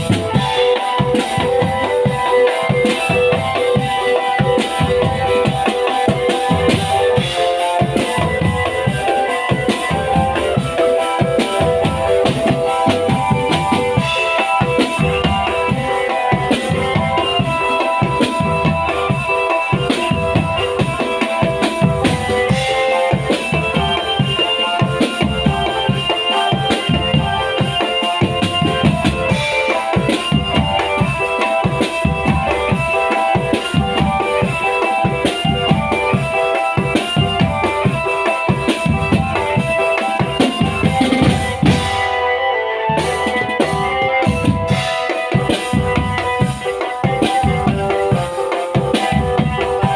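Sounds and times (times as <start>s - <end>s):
held melody notes: 0.0s - 49.9s
marching drum band playing: 0.0s - 49.9s
snare and bass drums: 0.0s - 49.9s.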